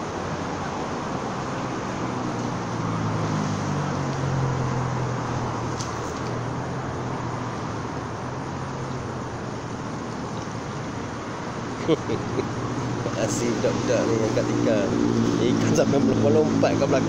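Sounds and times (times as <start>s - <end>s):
traffic rushing background: 0.0s - 17.0s
vehicle engine drone: 0.0s - 17.0s.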